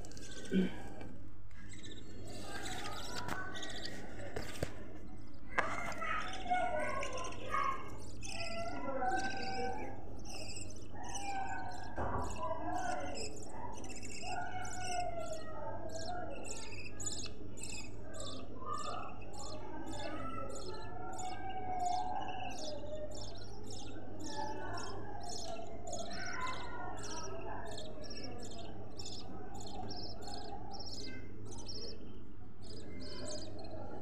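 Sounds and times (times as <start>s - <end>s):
budgerigar chicks cheeping: 0.0s - 34.0s
budgerigars warbling chatter: 0.0s - 34.0s.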